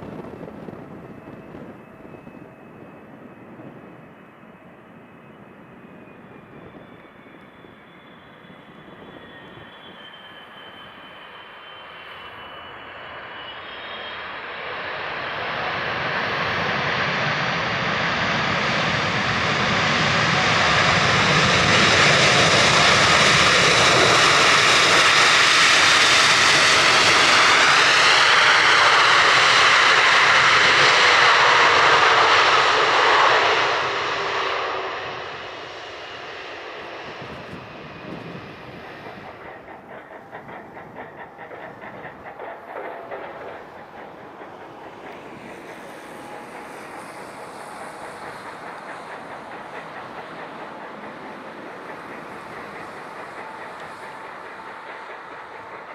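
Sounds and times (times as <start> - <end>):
jet engine roar: 0.0 - 55.9
jet engine whine sliding down: 0.0 - 55.9.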